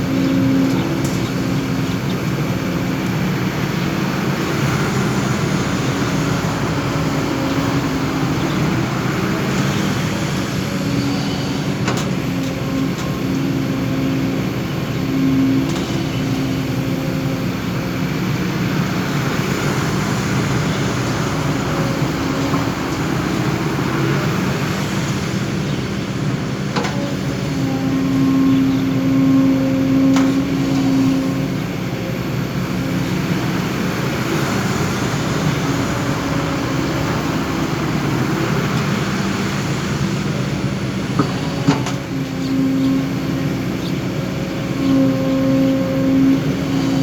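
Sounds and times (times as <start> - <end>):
excavator diesel engine humming: 0.0 - 47.0.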